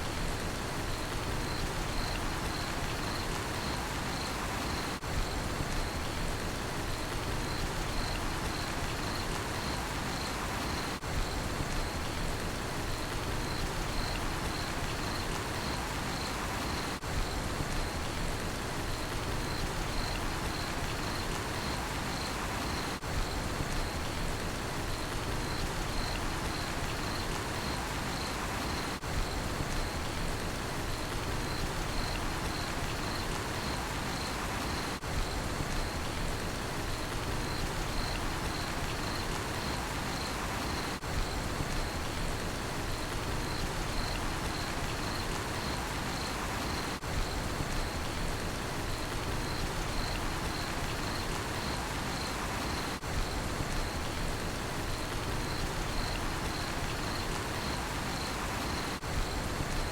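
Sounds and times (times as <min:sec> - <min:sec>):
steady rain falling: 0:00.0 - 0:59.9
cricket chirping: 0:00.8 - 0:06.2, 0:06.9 - 0:12.2, 0:12.9 - 0:18.2, 0:18.8 - 0:24.2, 0:24.8 - 0:59.9.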